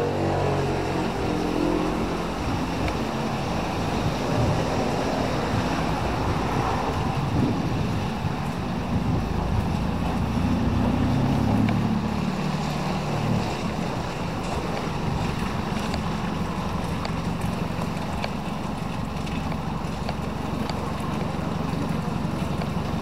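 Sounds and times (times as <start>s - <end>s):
pickup engine passing: 0.0s - 23.0s
traffic on wet road: 0.0s - 23.0s
wind on microphone: 0.1s - 23.0s.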